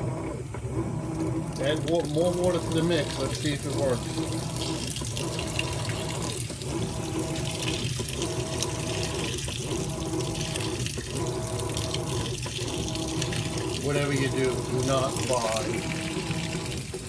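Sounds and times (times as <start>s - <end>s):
water pouring into washer tub: 1.0s - 17.0s.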